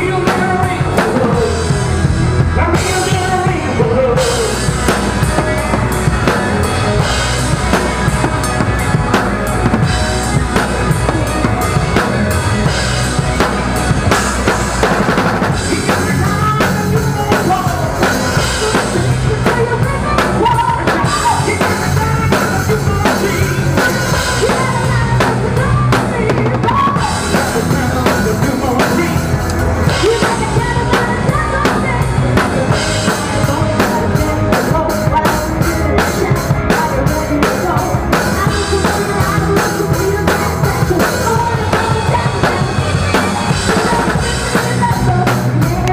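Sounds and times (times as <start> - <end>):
band music: 0.0 - 45.9
rock drum kit playing: 0.0 - 45.9.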